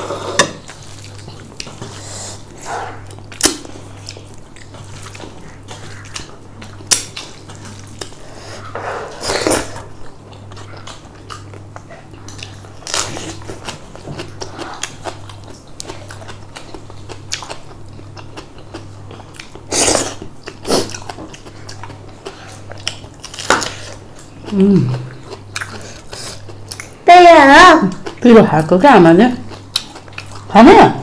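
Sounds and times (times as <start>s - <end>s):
chewing rice and chicken: 0.0s - 27.1s, 27.8s - 28.7s, 29.4s - 30.6s
steady low hum: 0.0s - 31.0s.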